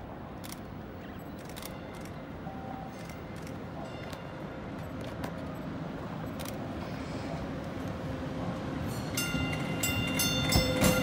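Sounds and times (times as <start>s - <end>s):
distant train rumble: 0.0s - 11.0s.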